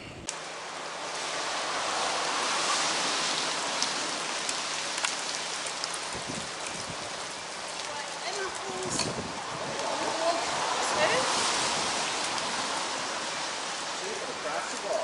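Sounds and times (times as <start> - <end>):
light rain hissing: 0.0 - 15.0
water drips ticking: 0.2 - 15.0.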